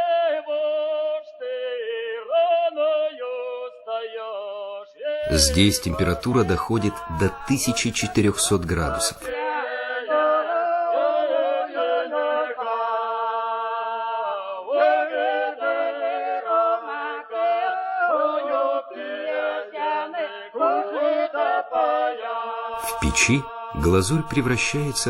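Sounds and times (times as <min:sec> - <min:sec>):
unaccompanied choir singing: 0:00.0 - 0:25.0.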